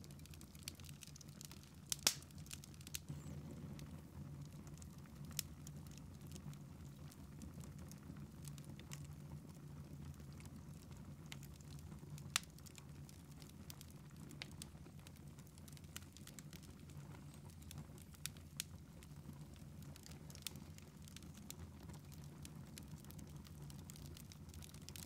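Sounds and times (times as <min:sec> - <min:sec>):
fire popping: 0:00.0 - 0:25.0
log fire crackling: 0:00.0 - 0:25.0.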